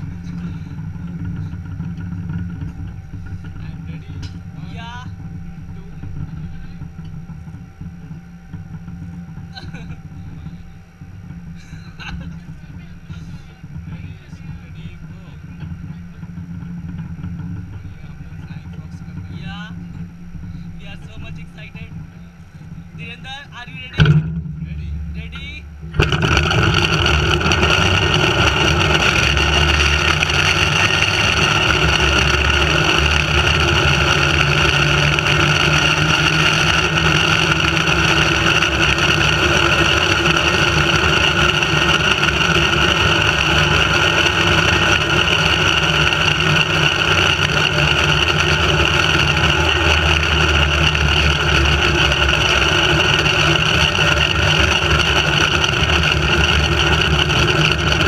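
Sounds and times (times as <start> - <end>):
trolley pulleys whining on cable: 0.0 - 58.0.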